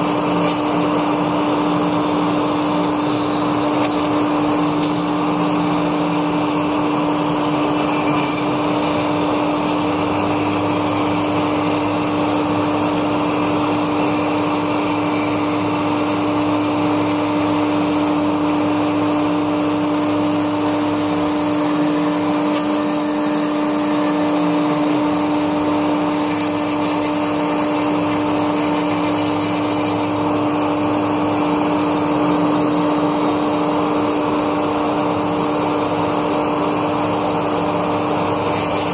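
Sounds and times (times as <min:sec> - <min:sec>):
router whine: 0:00.0 - 0:38.9.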